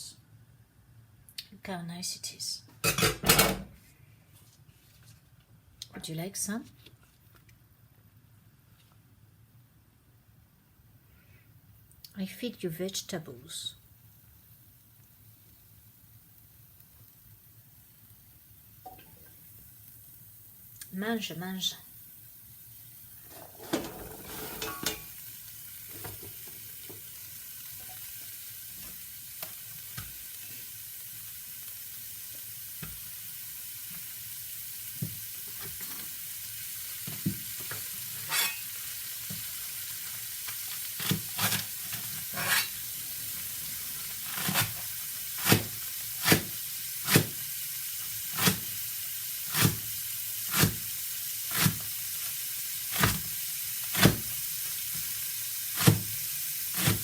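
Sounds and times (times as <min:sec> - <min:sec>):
food sizzling in a frying pan: 0:10.2 - 0:57.0.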